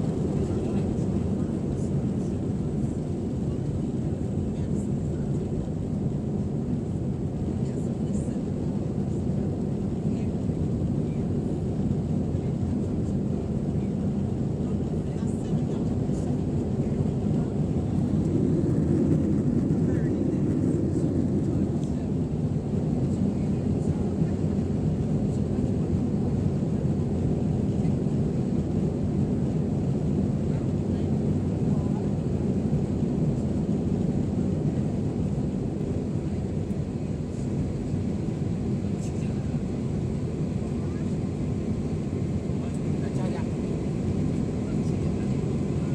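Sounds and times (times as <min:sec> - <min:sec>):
airplane cabin engine noise: 0:00.0 - 0:45.9.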